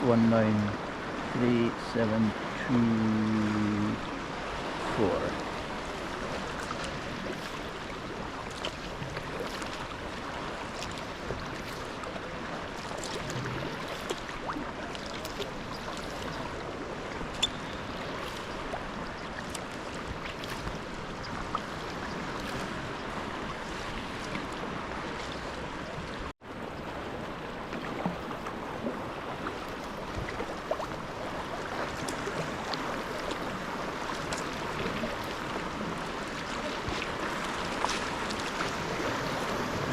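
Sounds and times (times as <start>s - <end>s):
paddle splashes and drips: 0.0s - 39.9s.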